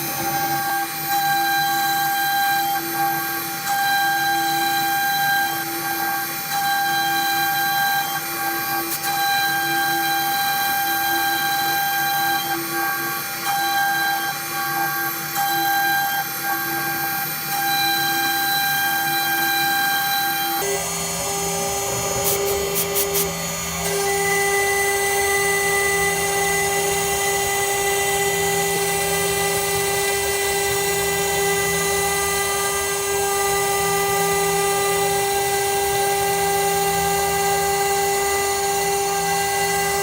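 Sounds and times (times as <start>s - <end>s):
router motors whining: 0.0s - 40.0s.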